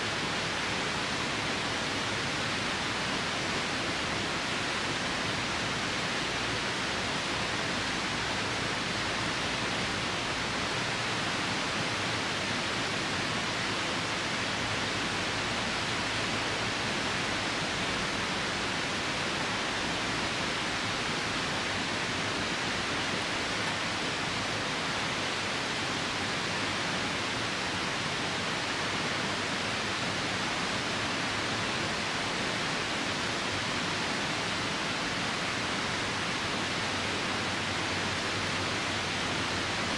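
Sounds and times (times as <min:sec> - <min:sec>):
rain falling: 0:00.0 - 0:39.9
river rushing: 0:00.0 - 0:39.9.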